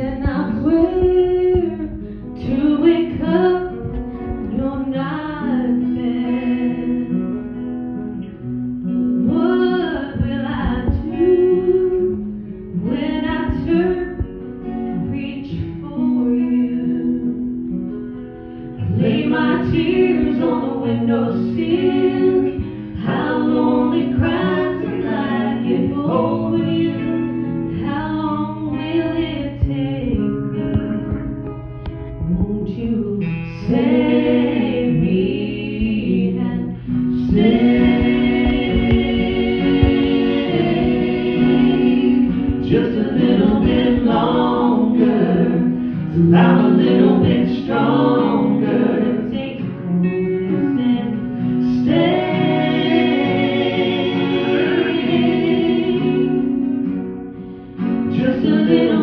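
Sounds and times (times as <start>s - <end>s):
woman singing into a microphone: 0.0s - 8.2s, 9.2s - 56.7s, 58.0s - 59.0s
live band with guitar: 0.0s - 59.0s.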